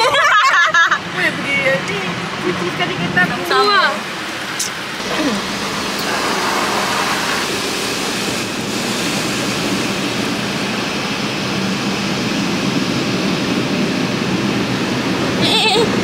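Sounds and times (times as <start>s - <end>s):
car wash rushing noise: 0.0s - 16.0s.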